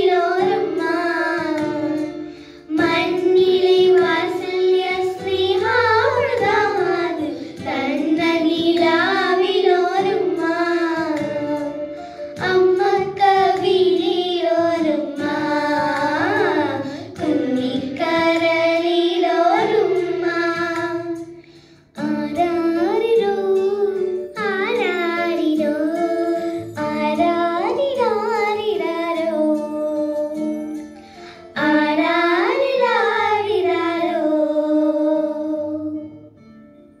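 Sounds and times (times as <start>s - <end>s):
girls singing together: 0.0s - 30.6s, 31.5s - 36.1s
low musical accompaniment: 0.0s - 37.0s.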